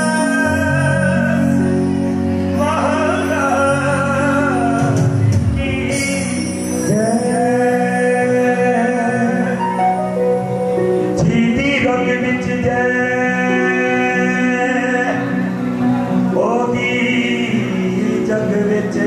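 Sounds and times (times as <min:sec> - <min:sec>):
instrumental accompaniment: 0:00.0 - 0:19.0
man singing long notes: 0:00.0 - 0:19.0.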